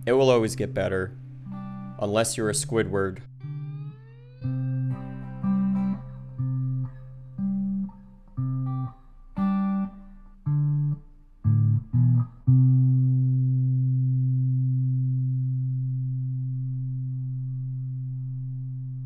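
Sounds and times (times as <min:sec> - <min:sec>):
plucked guitar notes: 0:00.0 - 0:19.0.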